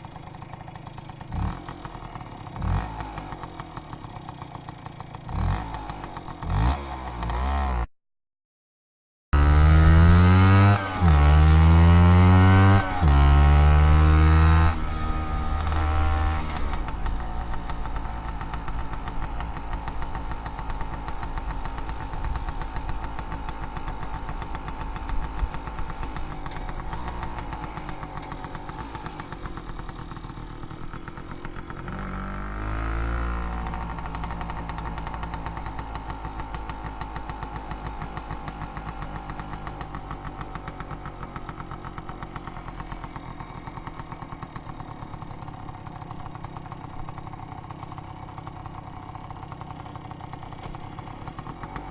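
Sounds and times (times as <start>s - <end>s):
scooter engine idling and revving: 0.0s - 7.9s, 9.4s - 51.9s.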